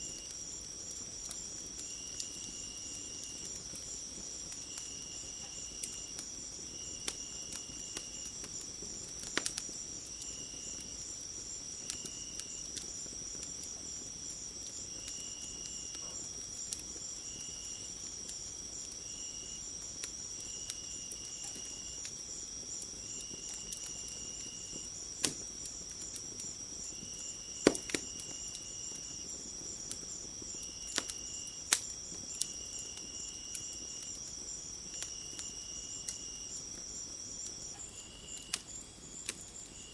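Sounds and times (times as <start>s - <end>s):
crickets chirping: 0.0s - 39.9s
wood fire crackling: 0.0s - 39.9s.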